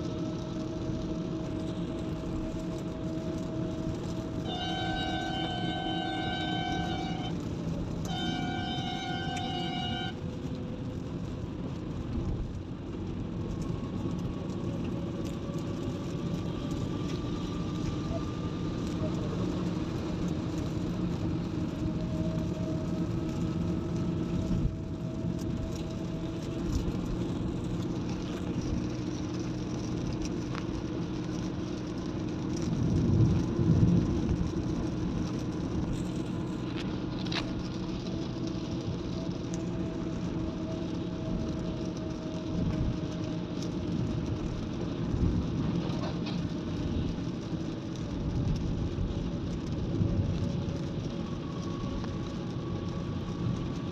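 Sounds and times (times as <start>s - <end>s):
car engine and tyres on wet road: 0.0s - 53.9s.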